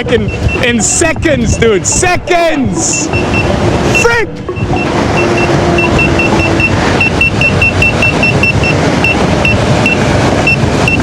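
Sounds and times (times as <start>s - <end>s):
wind rushing: 0.0s - 11.0s
short high alarm beeps: 0.2s - 0.8s, 1.5s - 11.0s.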